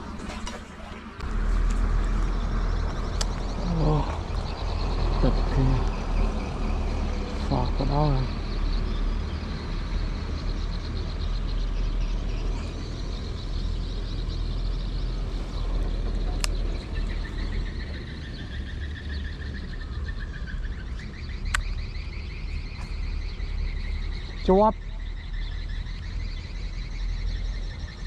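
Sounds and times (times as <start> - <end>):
high pulsing outdoor chorus: 0.0 - 28.0.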